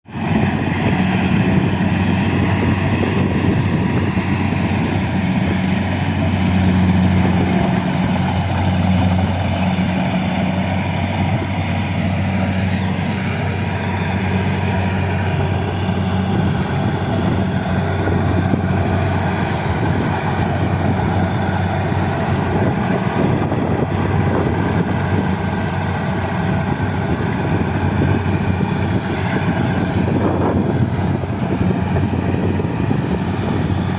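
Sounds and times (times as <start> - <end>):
diesel engine droning: 0.0 - 33.9
harvester machinery noise: 0.1 - 33.9.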